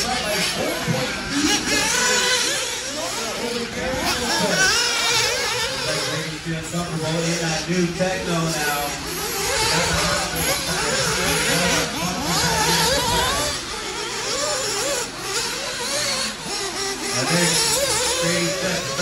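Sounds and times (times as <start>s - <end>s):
toy buggy motors whining: 0.0s - 19.0s.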